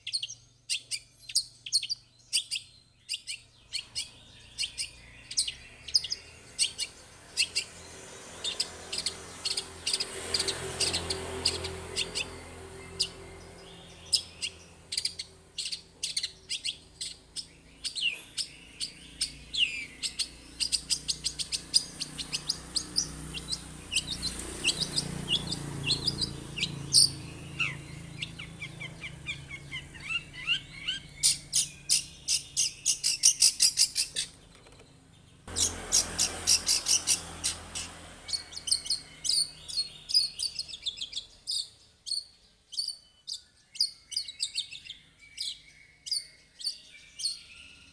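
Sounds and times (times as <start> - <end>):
bird singing chirps and trills: 0.0 - 47.9.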